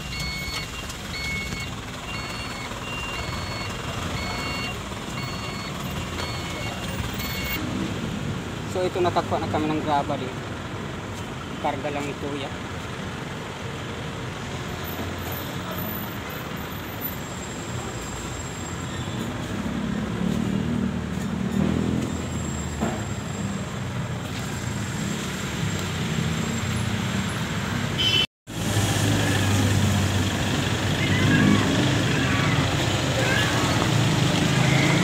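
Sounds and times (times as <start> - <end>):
diesel engines droning: 0.0 - 35.0
traffic noise: 0.0 - 35.0.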